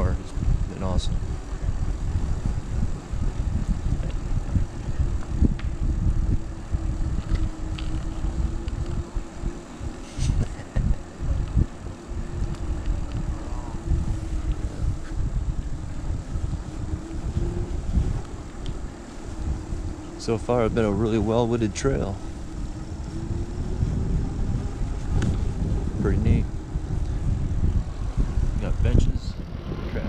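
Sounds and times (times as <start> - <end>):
e-bike motor hum: 0.0 - 30.0
wind rumble on microphone: 0.0 - 30.0.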